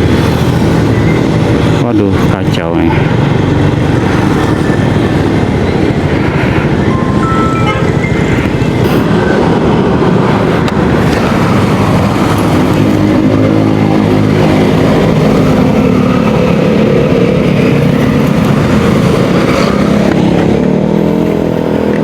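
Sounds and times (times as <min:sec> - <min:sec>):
road noise rumble: 0:00.0 - 0:22.0
vehicle engine droning: 0:00.0 - 0:22.0.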